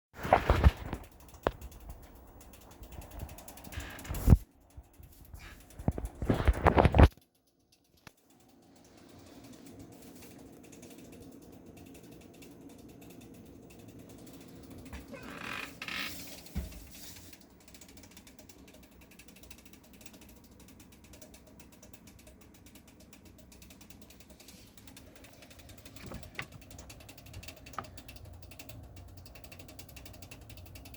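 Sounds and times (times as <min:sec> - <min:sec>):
relays clicking rapidly: 0:00.3 - 0:30.9.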